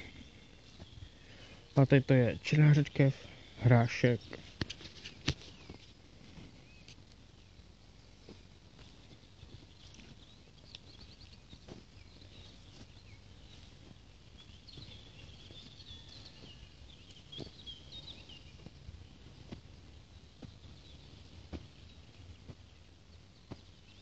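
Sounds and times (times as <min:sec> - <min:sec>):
birds chirping and trilling: 0:00.0 - 0:19.3, 0:20.1 - 0:24.0
footsteps on dry soil: 0:00.0 - 0:24.0.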